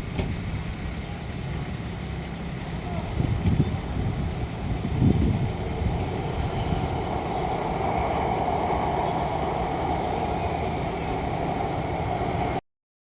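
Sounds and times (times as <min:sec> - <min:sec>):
traffic rumble and hum: 0:00.0 - 0:12.6.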